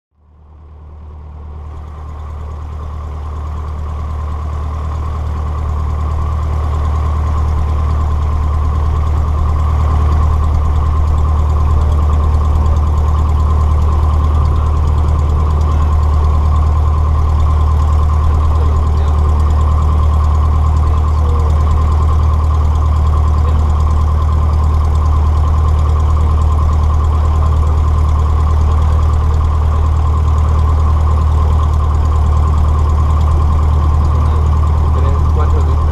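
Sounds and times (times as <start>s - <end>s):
airplane piston engine humming: 0.8s - 35.9s.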